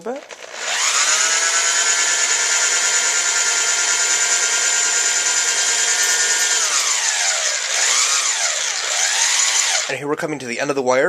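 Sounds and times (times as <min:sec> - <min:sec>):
electric drill motor whine: 0:00.2 - 0:09.9.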